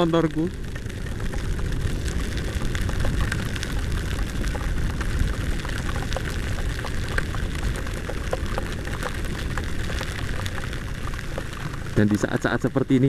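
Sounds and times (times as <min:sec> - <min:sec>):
low rumble of riding on wet road: 0:00.0 - 0:13.0
rain pattering on helmet: 0:00.0 - 0:13.0.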